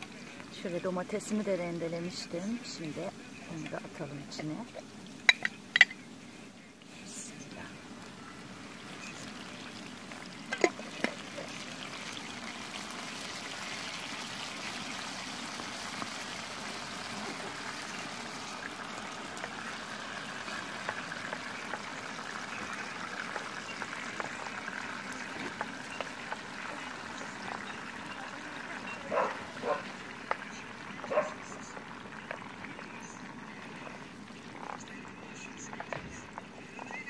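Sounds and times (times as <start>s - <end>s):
vegetables sizzling in a frying pan: 0.0s - 37.0s.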